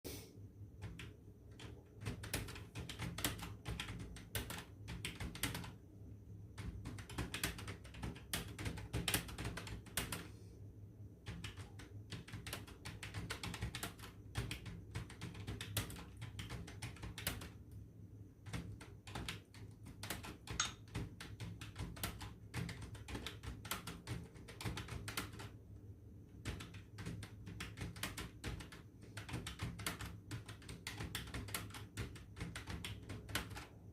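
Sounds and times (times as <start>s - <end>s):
keyboard typing: 0.8s - 5.8s, 6.5s - 10.3s, 11.2s - 17.8s, 18.4s - 25.6s, 26.3s - 33.9s.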